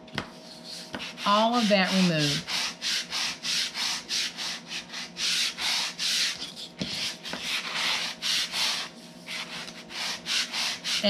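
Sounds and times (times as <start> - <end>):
sanding block rubbing paper: 0.4 - 11.0.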